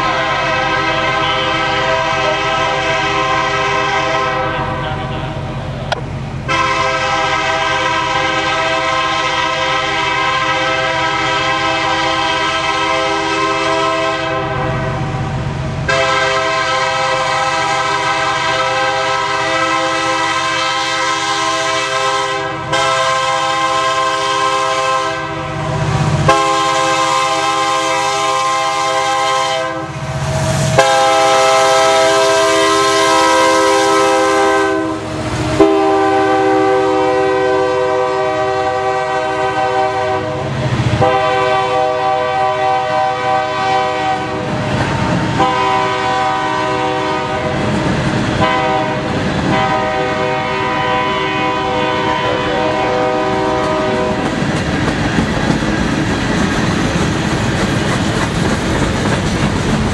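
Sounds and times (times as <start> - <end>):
locomotive air horn blasts: 0.0 - 5.2, 6.5 - 15.3, 15.9 - 47.8, 48.4 - 54.3
train wheels: 0.0 - 59.9.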